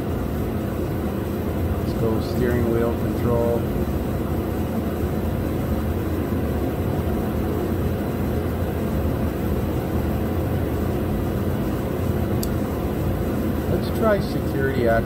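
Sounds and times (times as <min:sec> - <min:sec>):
machine droning: 0:00.0 - 0:15.0.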